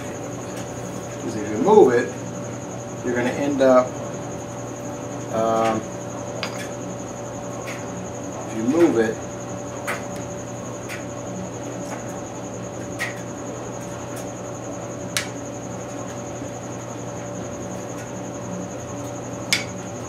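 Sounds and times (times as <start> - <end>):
fan hum: 0.0 - 20.0.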